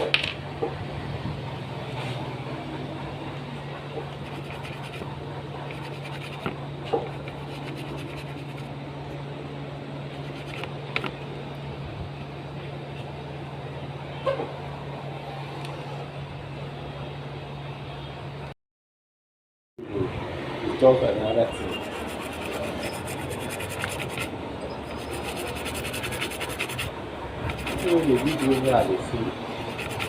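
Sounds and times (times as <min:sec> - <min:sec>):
low equipment hum: 0:00.0 - 0:18.5, 0:19.8 - 0:30.0.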